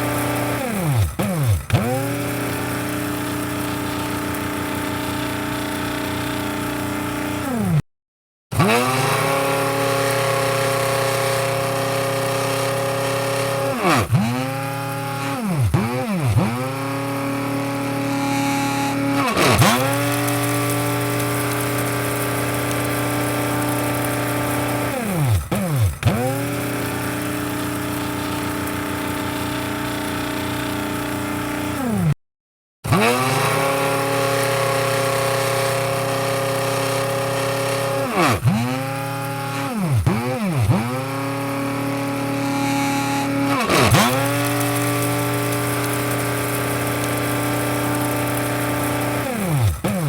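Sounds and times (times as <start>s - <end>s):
coffee grinder motor whining: 0.0s - 7.8s, 8.5s - 32.2s, 32.9s - 50.0s.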